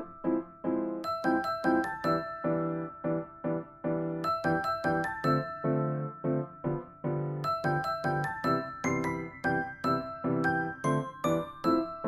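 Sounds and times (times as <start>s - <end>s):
electric piano tune: 0.0s - 12.0s.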